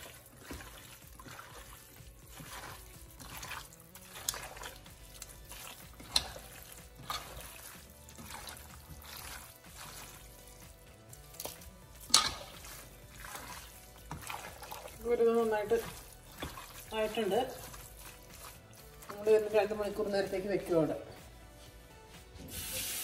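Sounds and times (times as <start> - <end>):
wet squelching of kneaded meat: 0.0 - 23.0.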